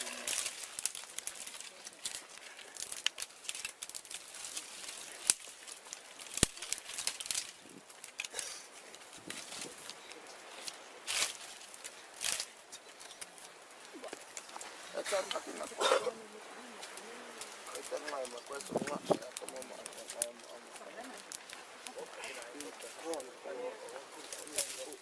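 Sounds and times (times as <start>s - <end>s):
dry sticks snapping: 0.0s - 15.8s, 16.8s - 25.0s
branches rustling: 0.0s - 25.0s
twig fire crackling: 0.0s - 25.0s.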